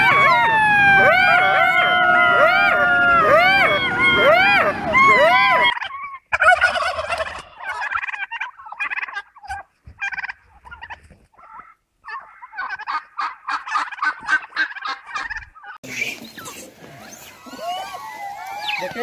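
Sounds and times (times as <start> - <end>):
turkeys gobbling: 0.0 - 19.0.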